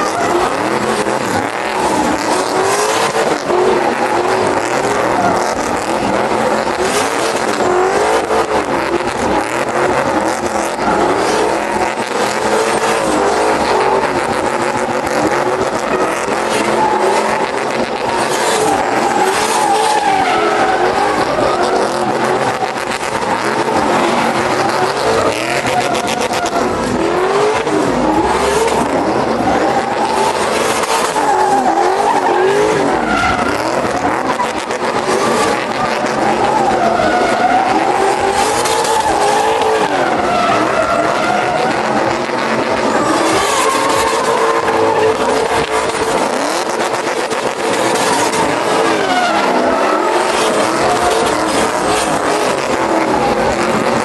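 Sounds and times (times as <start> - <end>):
tire squeal: 0.0 - 54.0
truck engines revving: 0.0 - 54.0.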